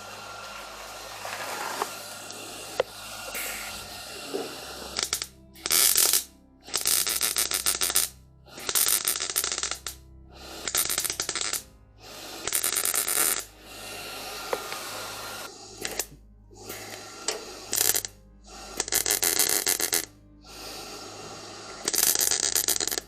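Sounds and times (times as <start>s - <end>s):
welder crackling: 0.0s - 10.0s, 10.6s - 11.6s, 12.4s - 16.1s, 16.7s - 20.1s, 20.9s - 23.0s.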